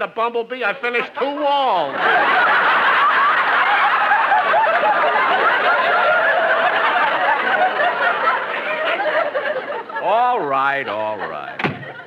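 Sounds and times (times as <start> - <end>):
studio audience laughing: 1.7 - 12.0.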